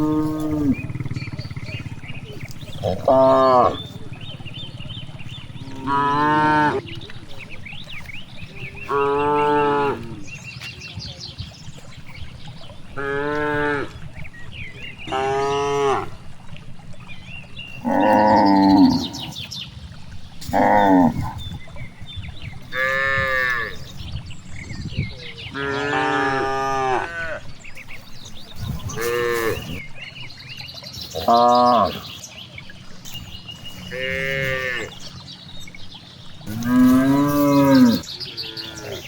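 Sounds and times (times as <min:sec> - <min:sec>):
cows mooing: 0:00.0 - 0:10.4, 0:12.8 - 0:19.4, 0:20.3 - 0:24.0, 0:25.4 - 0:30.0, 0:31.0 - 0:32.2, 0:33.0 - 0:39.0.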